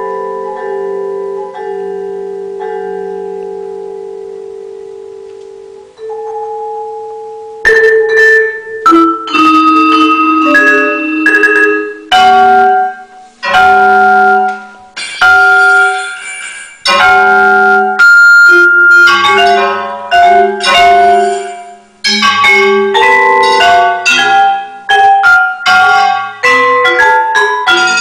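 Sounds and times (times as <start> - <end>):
vibraphone played with mallets: 0.0 - 28.0.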